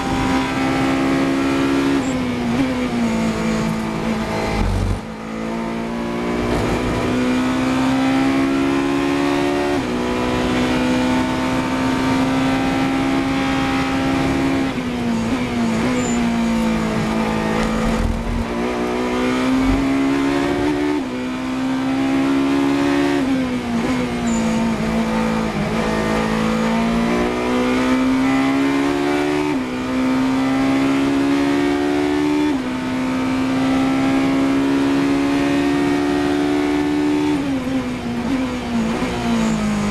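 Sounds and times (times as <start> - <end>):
racing engine at full throttle: 0.0 - 39.9.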